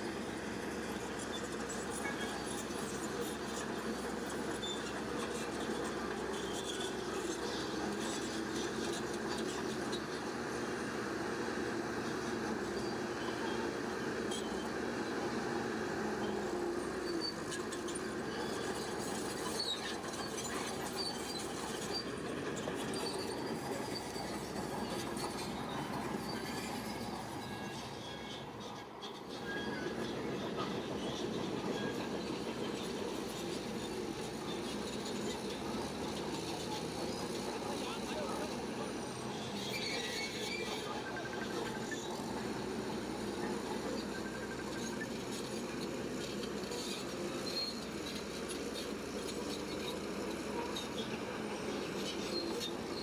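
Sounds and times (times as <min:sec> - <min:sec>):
bulldozer diesel engine running: 0:00.0 - 0:53.0
tracks squeaking and clinking: 0:00.1 - 0:53.0.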